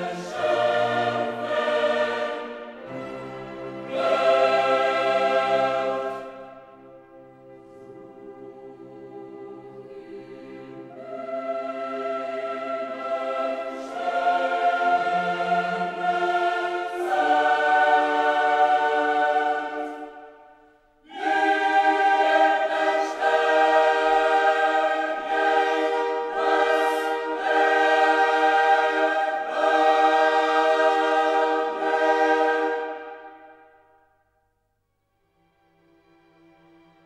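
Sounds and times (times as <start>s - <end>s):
choir-like chords music: 0.0s - 34.5s.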